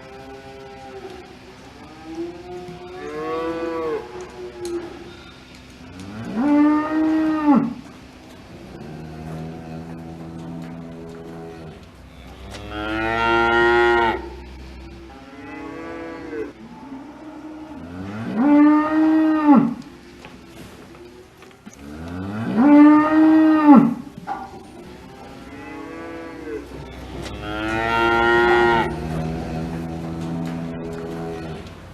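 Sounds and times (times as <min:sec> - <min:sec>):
cattle mooing: 0:00.0 - 0:07.8, 0:08.6 - 0:19.9, 0:21.8 - 0:31.8.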